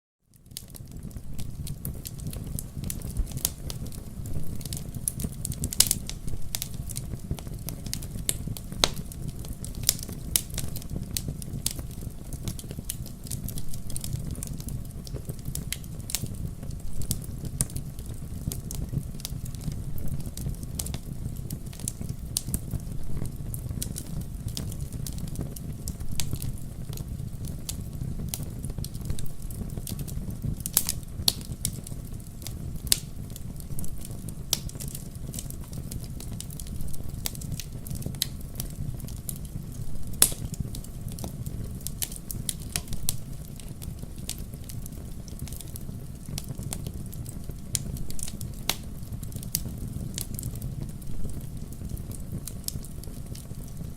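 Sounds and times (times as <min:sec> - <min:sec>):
low rumble of flames: 0:00.3 - 0:53.9
wood fire crackling and popping: 0:00.3 - 0:53.9.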